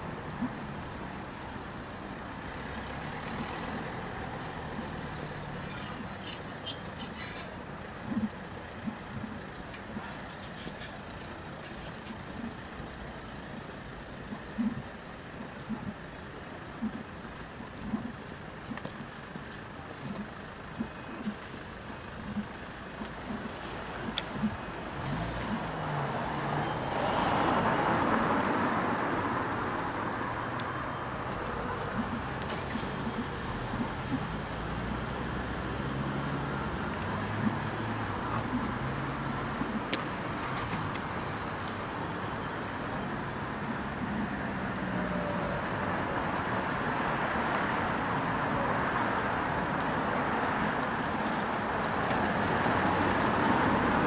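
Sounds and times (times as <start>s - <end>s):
cars passing: 0.0s - 54.0s
traffic hum: 0.0s - 54.0s.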